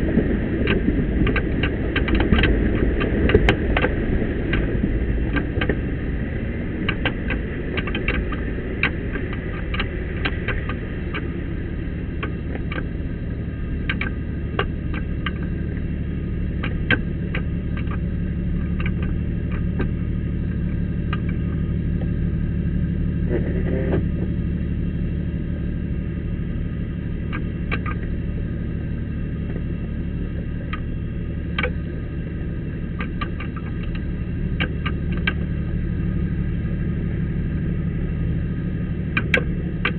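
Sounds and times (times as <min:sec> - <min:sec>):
vehicle engine at low revs: 0:00.0 - 0:39.9
sharp clicks and knocks: 0:00.2 - 0:22.2, 0:27.1 - 0:37.8, 0:38.7 - 0:39.9.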